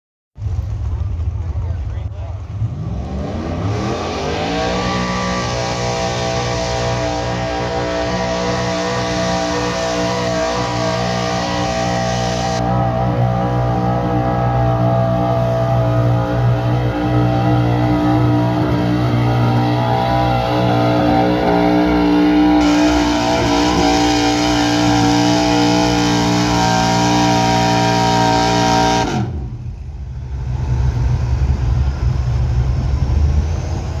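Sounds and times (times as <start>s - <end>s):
truck engine at high revs: 0.4s - 34.0s.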